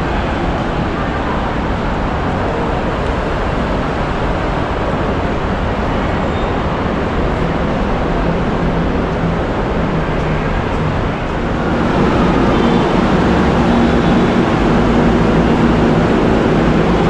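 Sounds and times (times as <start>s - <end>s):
light-rail train running: 0.0s - 17.0s.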